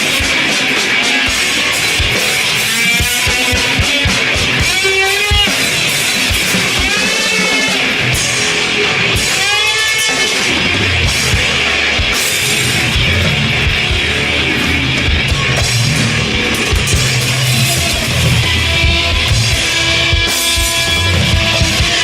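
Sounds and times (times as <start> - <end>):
distorted electric guitar: 0.0 - 22.0
drums: 0.0 - 22.0
wailing sliding guitar notes: 0.0 - 22.0.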